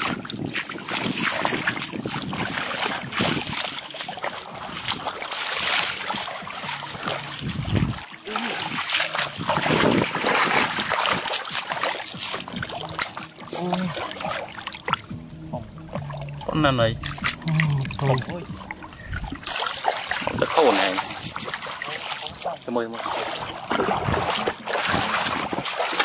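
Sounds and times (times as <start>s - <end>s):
water splashing from wading: 0.0s - 26.0s.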